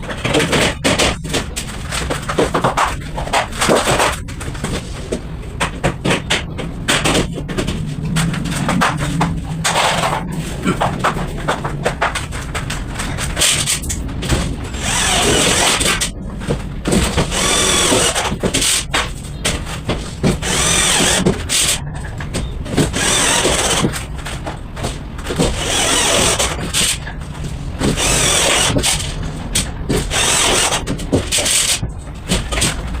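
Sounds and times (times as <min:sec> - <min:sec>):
knocks and rattles: 0:00.0 - 0:33.0.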